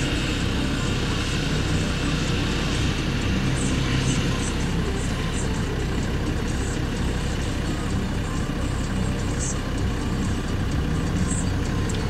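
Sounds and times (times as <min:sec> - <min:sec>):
off-road engines at low revs: 0:00.0 - 0:12.0.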